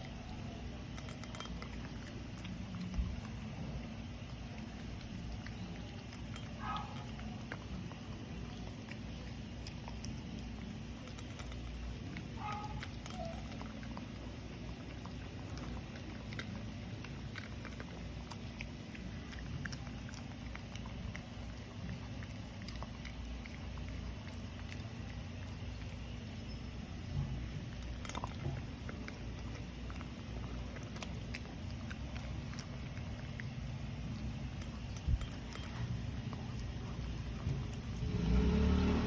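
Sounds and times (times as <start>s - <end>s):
dog eating crunches: 0.0s - 39.0s
steady low hum: 0.0s - 39.0s.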